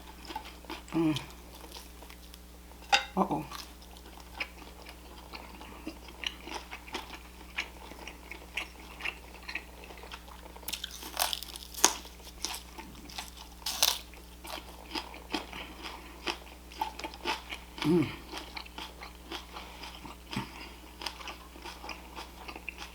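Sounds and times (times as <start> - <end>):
person chewing crunchy food: 0.0 - 22.9.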